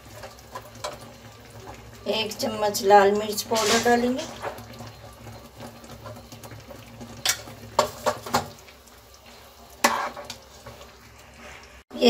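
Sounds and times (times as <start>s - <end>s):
food bubbling in pan: 0.0s - 12.0s.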